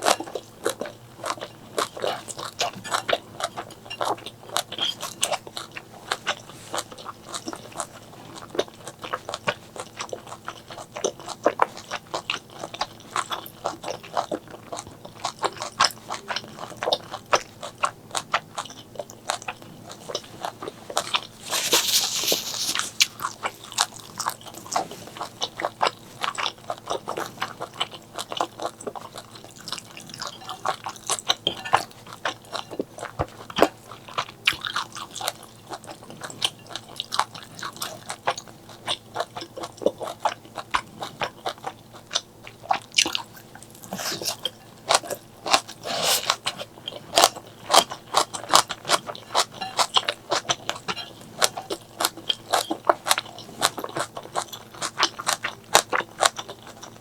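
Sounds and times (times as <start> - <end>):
wet crunchy chewing: 0.0 - 57.0.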